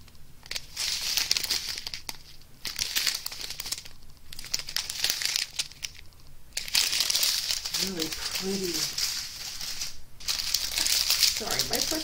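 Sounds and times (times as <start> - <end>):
plastic bags crinkling: 0.4 - 12.0.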